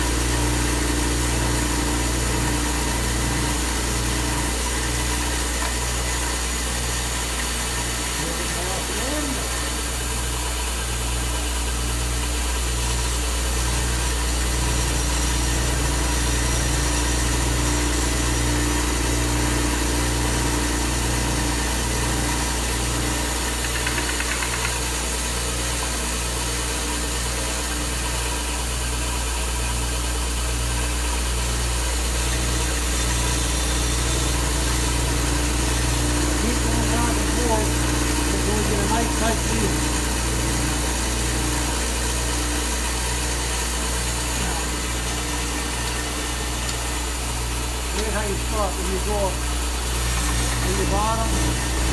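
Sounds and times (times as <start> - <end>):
power sander motor hum: 0.0 - 51.9.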